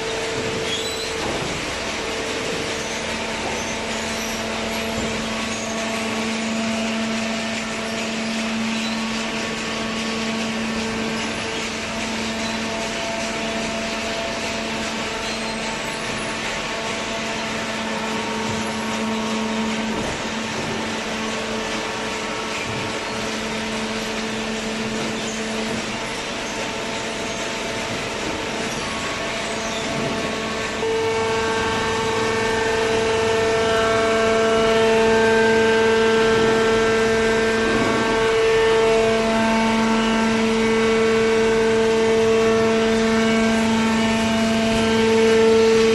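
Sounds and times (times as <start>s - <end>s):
machine hum with steady tone: 0.0s - 45.9s.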